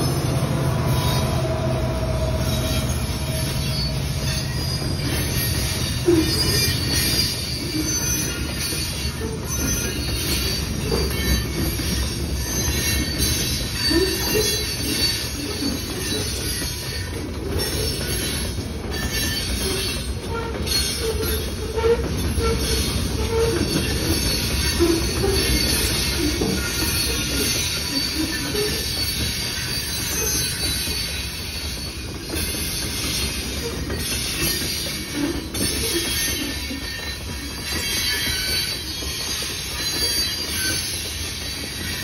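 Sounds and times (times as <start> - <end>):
train wheels rumbling on rail: 0.0 - 42.0
wheel squeals: 0.0 - 42.0.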